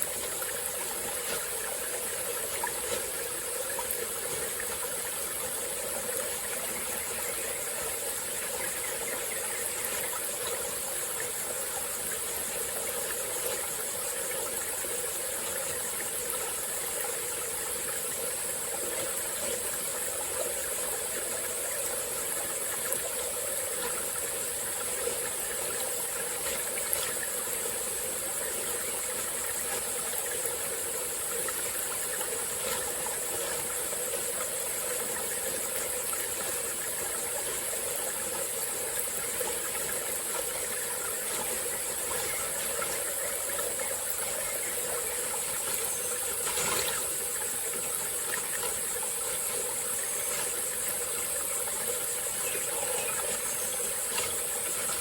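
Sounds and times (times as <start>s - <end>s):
stream flowing and trickling: 0.0s - 55.0s.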